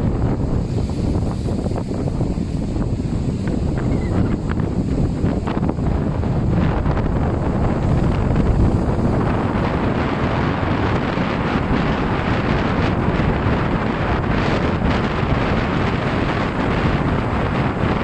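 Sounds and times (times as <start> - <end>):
heavy surf rushing: 0.0 - 18.0
wind buffeting microphone: 0.0 - 18.0.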